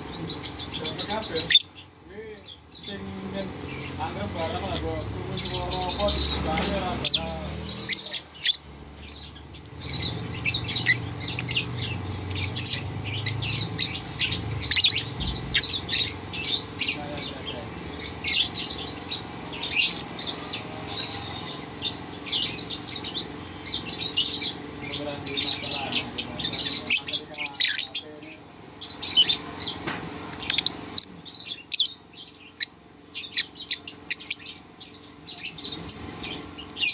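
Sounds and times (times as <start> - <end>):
lovebirds chattering: 0.0 - 36.9.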